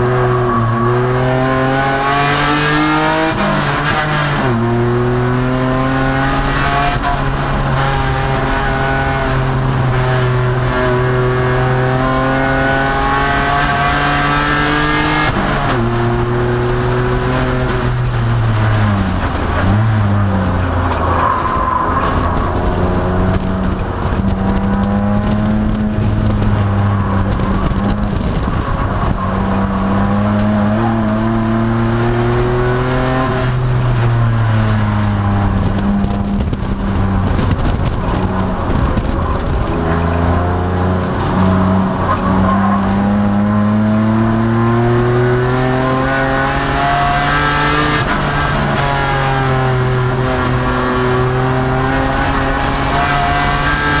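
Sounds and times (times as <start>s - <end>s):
race car engine revving: 0.0s - 54.0s
road and tyre noise: 0.0s - 54.0s.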